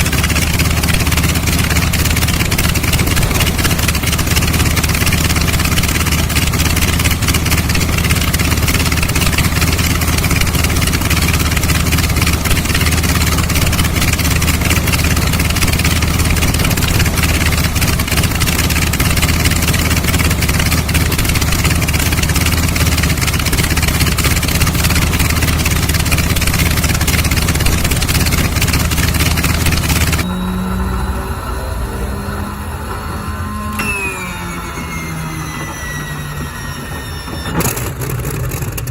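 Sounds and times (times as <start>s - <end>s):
aircraft piston engine idling: 0.0s - 38.9s.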